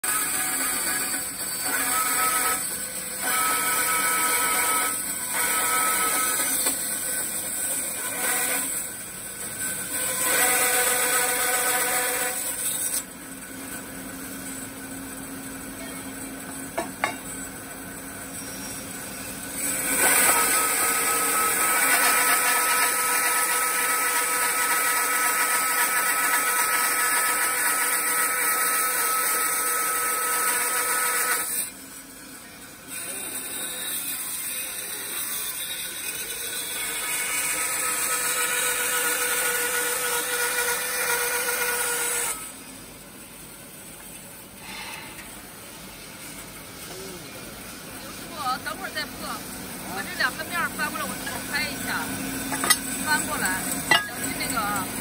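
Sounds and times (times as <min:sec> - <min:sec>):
band saw cutting metal: 0:00.0 - 0:14.7, 0:18.2 - 0:32.1, 0:32.7 - 0:42.7, 0:48.1 - 0:55.0.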